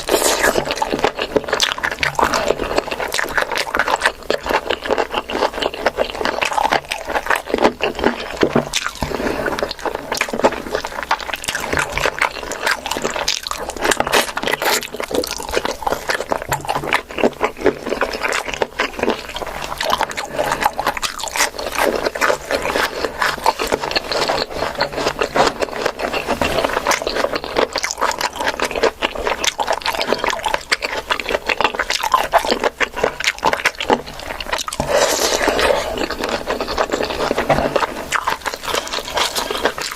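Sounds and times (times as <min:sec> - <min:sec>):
chewing with mouth clicks: 0:00.0 - 0:39.9.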